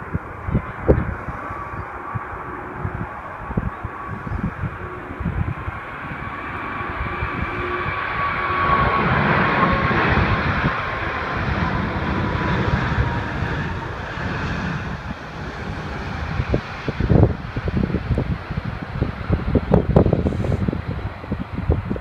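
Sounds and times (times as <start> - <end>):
jet rumble with high whine: 0.0 - 22.0
wind buffeting microphone: 0.0 - 22.0.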